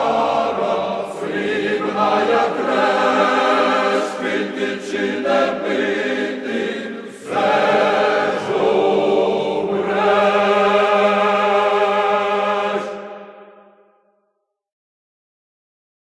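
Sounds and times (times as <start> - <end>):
mixed folk choir singing: 0.0 - 13.6.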